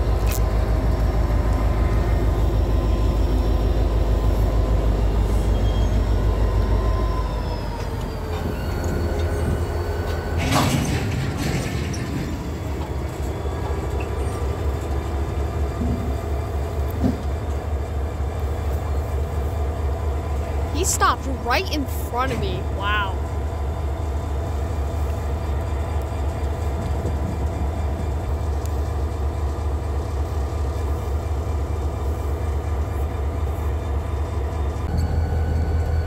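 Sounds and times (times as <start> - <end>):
diesel locomotive engine throbbing: 0.0 - 36.0.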